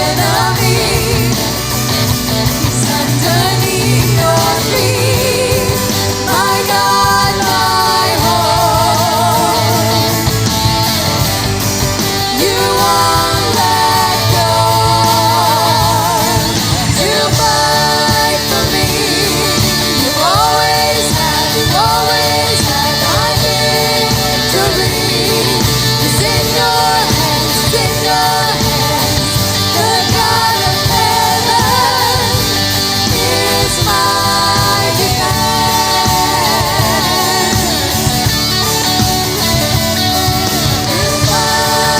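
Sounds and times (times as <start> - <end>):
person singing with vibrato: 0.0 - 41.9
rock band with guitar: 0.0 - 41.9.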